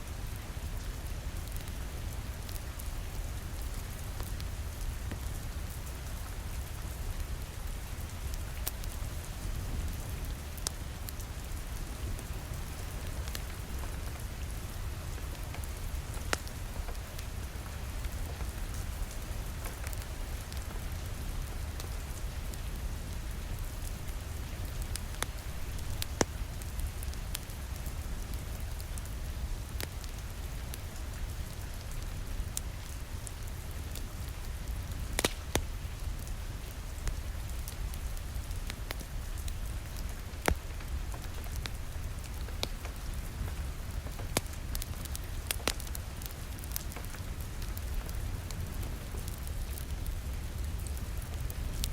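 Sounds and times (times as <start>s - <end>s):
rain on a window: 0.0s - 51.9s
wood fire crackling: 0.0s - 51.9s.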